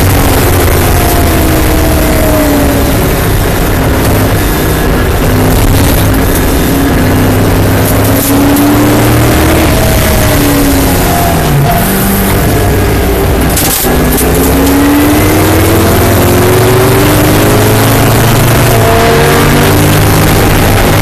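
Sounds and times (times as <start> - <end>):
racing car engine: 0.0 - 21.0
wind and road noise: 0.0 - 21.0.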